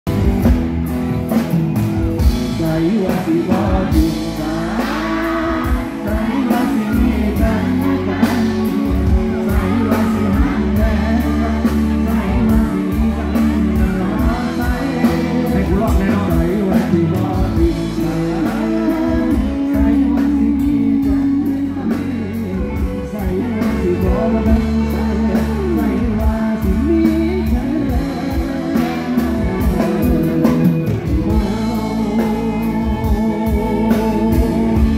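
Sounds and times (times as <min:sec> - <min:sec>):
live rock band playing: 0:00.0 - 0:34.9
man singing into microphone: 0:02.2 - 0:34.9.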